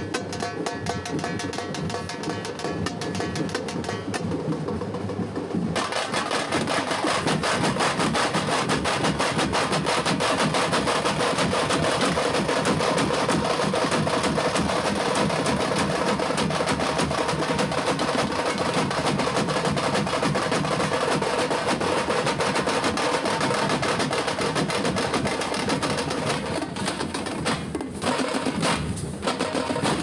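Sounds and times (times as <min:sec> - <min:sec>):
frame drums beaten with sticks: 0:00.0 - 0:30.0.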